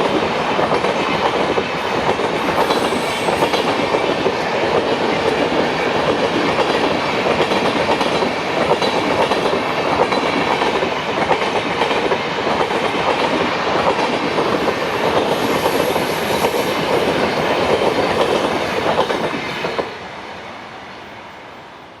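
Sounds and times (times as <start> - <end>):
train wheels clattering over rail joints: 0.0 - 19.9.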